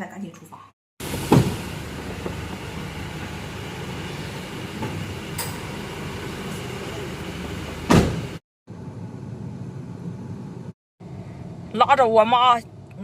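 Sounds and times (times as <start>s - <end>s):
vehicle road noise rumble: 1.0s - 12.0s.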